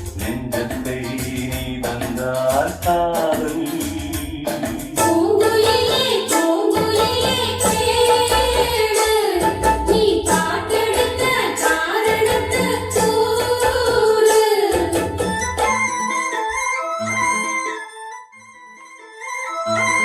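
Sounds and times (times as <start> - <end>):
film song over speakers: 0.0 - 20.0.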